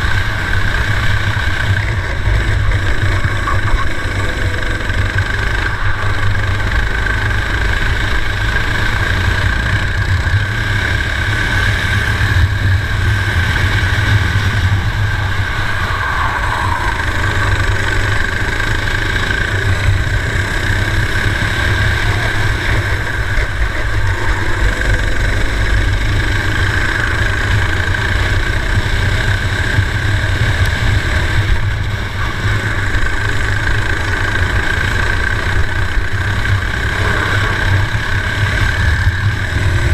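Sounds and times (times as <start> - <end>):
racing kart engine running: 0.0 - 39.9.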